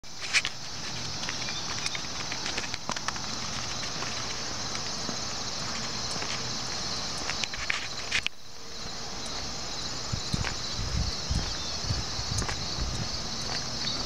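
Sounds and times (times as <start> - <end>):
high-pitched insect chorus: 0.0 - 14.0
footsteps on asphalt: 0.1 - 14.0.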